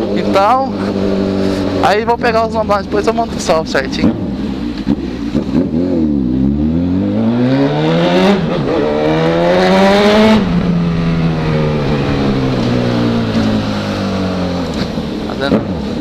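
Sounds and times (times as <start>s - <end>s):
motorcycle accelerating hard: 0.0s - 16.0s.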